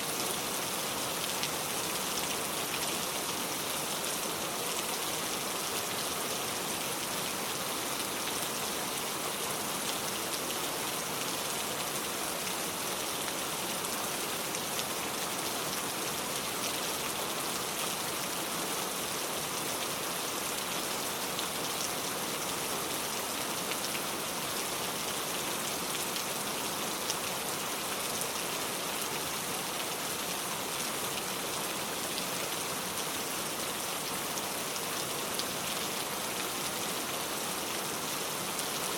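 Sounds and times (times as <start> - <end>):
rain falling on a car: 0.1 - 38.9.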